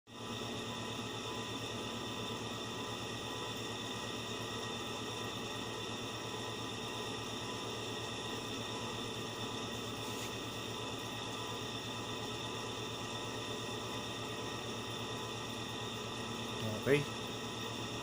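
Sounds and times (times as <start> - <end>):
electrical hum with hiss: 0.1 - 18.0.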